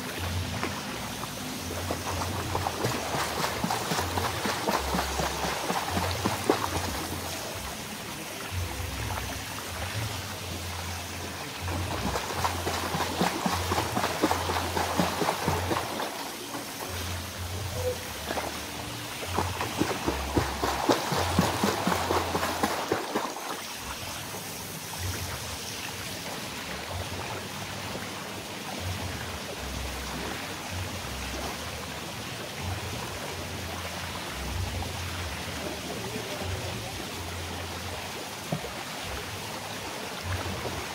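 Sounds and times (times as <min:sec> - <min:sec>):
faint music: 0:00.0 - 0:40.9
pool water splashing: 0:00.0 - 0:40.9.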